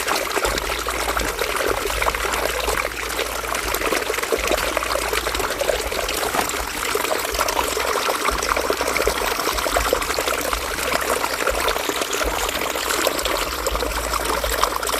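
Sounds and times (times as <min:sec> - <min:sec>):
river water babbling: 0:00.0 - 0:14.9.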